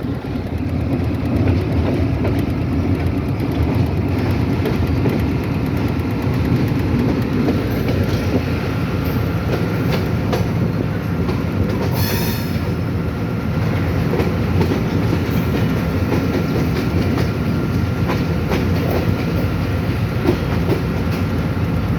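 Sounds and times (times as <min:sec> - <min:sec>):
train rumbling on track: 0:00.0 - 0:21.9
wheels clicking over rail joints: 0:00.0 - 0:21.9.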